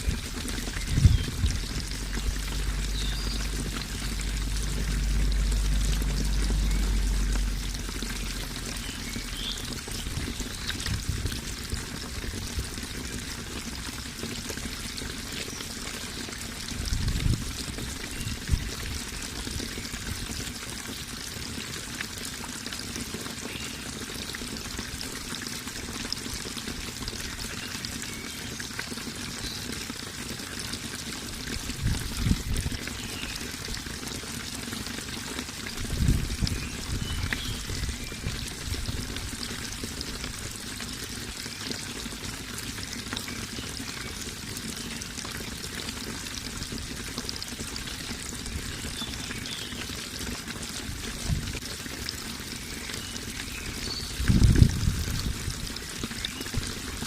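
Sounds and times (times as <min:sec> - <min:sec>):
water running and splashing: 0:00.0 - 0:57.0.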